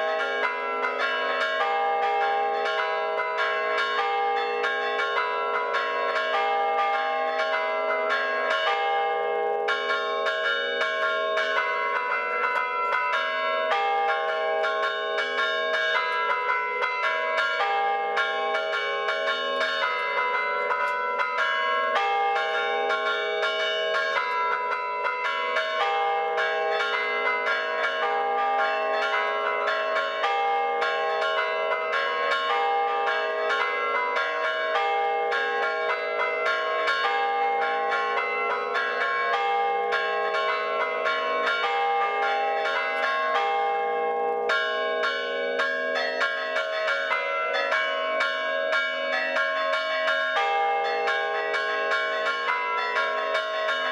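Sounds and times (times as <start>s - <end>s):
church bells chiming: 0.0s - 53.9s.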